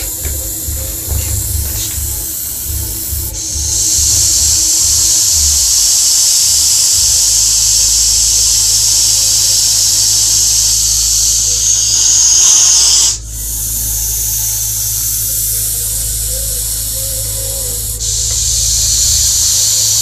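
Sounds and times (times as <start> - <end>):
snake hissing: 0.0 - 20.0.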